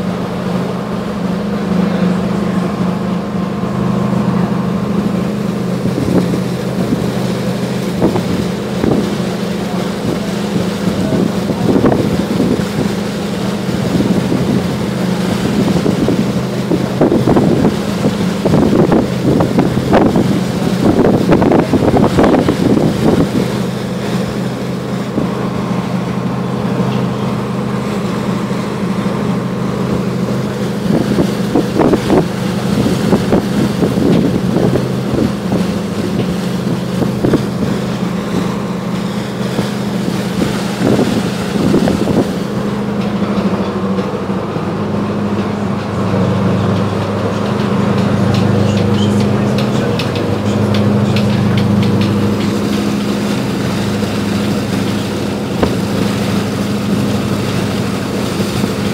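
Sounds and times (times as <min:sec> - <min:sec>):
ferry engines droning: 0:00.0 - 0:58.9
wind on microphone: 0:04.4 - 0:25.9, 0:29.1 - 0:58.9.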